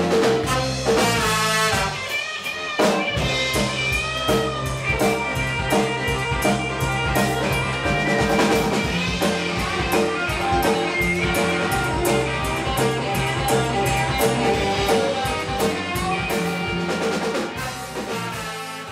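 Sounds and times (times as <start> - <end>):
drum kit: 0.0 - 18.9
electric guitar: 0.0 - 18.9
keyboard: 0.0 - 18.9.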